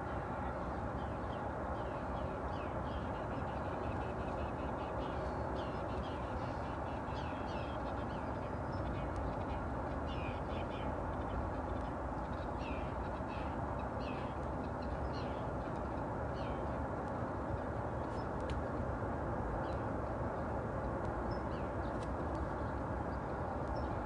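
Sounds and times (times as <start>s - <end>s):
steady background rumble: 0.0s - 24.0s.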